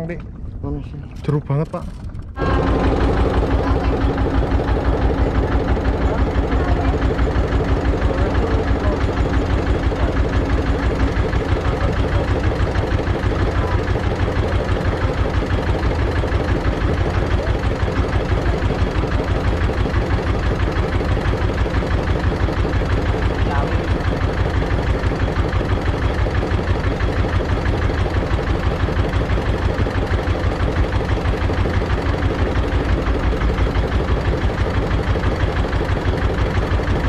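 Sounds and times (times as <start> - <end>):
boat engine pulsing: 0.0 - 37.0.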